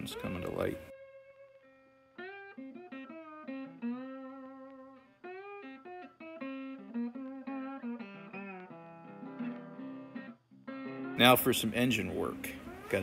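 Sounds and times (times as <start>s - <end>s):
plucked guitar melody: 0.0s - 13.0s.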